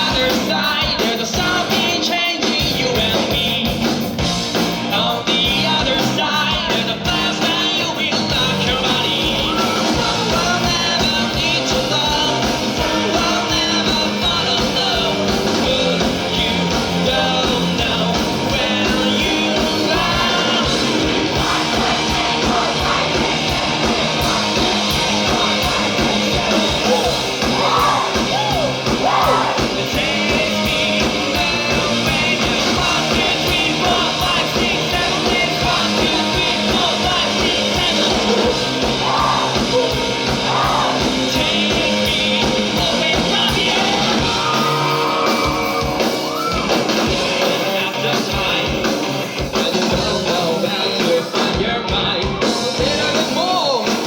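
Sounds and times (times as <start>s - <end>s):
drums steady beat: 0.0s - 54.0s
live rock band: 0.0s - 54.0s
person singing: 4.8s - 54.0s.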